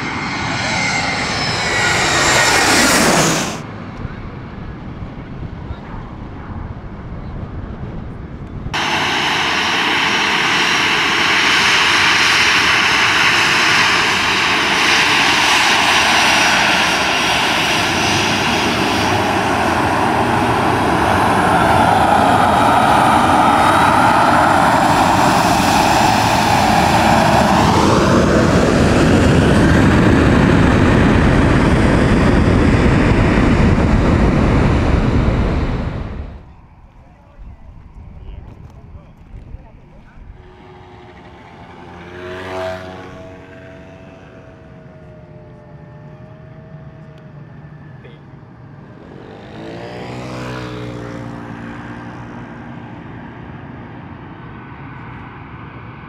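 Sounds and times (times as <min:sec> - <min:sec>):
airliner engines running: 0:00.0 - 0:56.0
rising engine whine: 0:00.0 - 0:56.0.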